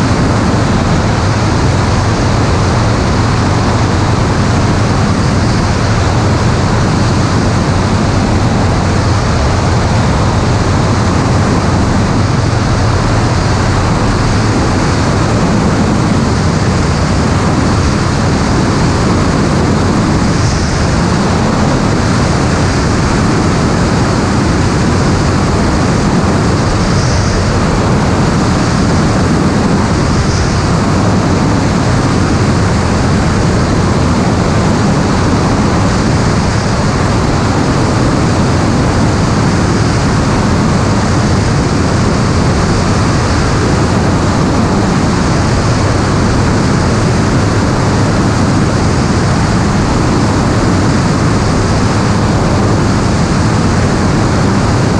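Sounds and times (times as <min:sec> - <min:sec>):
aircraft cabin engine and airflow noise: 0:00.0 - 0:54.9.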